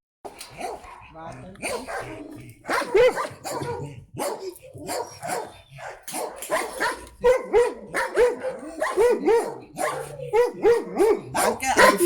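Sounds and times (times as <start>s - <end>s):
dogs barking: 0.2s - 12.0s.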